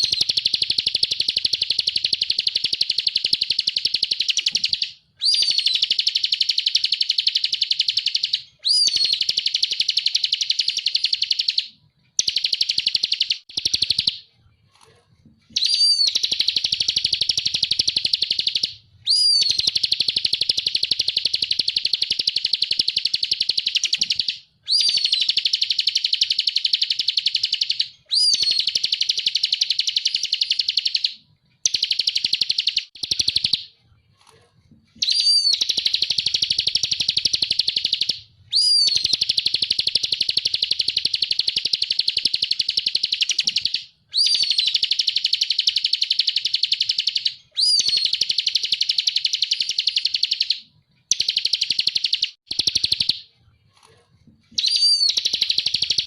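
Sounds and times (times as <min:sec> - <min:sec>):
bird singing fast chattering trills: 0:00.0 - 0:14.2, 0:15.6 - 0:33.7, 0:35.0 - 0:53.2, 0:54.6 - 0:56.0.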